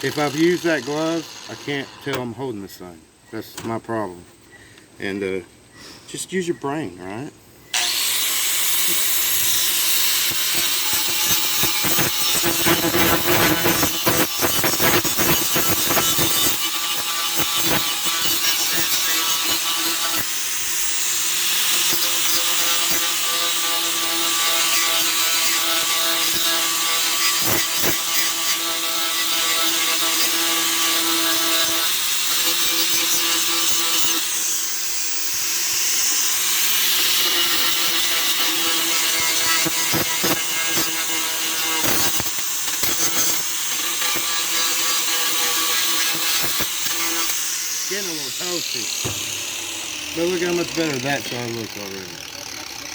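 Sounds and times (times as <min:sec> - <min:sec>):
electric grinder grinding steel: 0:00.0 - 0:02.2, 0:07.8 - 0:52.9.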